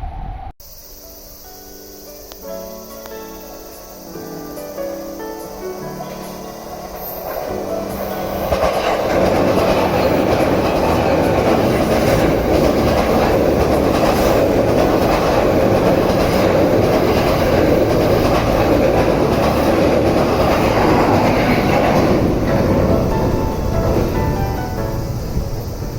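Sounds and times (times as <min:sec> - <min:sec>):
electric train passing at high speed: 0:00.0 - 0:25.9
wheel-on-rail rushing noise: 0:04.8 - 0:25.9.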